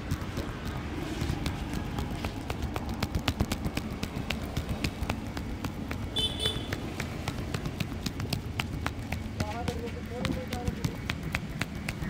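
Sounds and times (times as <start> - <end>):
hands slapping and tapping head: 0.0 - 12.0.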